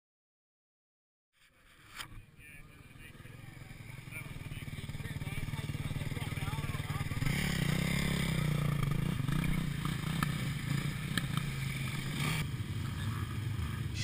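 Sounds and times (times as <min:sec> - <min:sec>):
quad bike engine running: 0:02.4 - 0:14.0.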